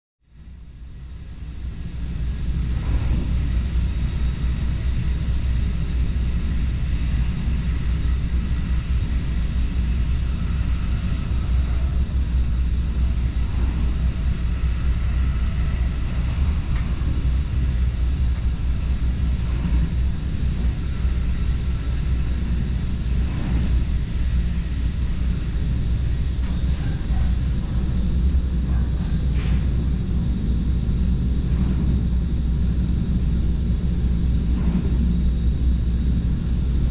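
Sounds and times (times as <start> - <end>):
train rumble inside carriage: 0.2 - 36.9.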